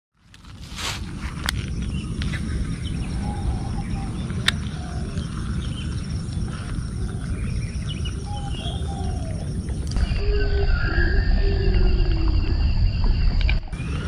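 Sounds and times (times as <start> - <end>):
steady low rumble: 0.3 - 14.0.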